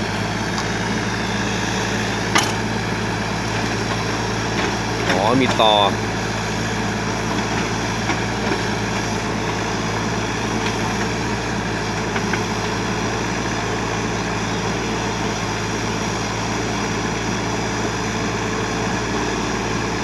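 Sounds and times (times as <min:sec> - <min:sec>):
diesel engine running steadily: 0:00.0 - 0:20.0.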